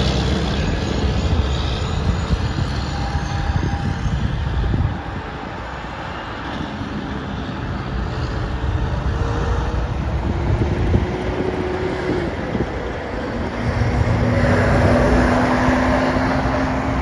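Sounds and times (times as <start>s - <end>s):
diesel trucks passing: 0.0s - 17.0s
wind buffeting microphone: 0.0s - 17.0s.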